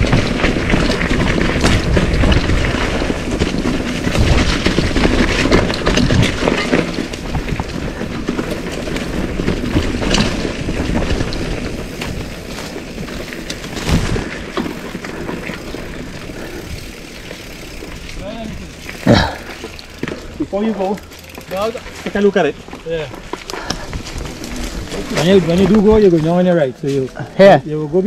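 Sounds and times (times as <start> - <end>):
mountain bike rattling over dirt: 0.0 - 28.0.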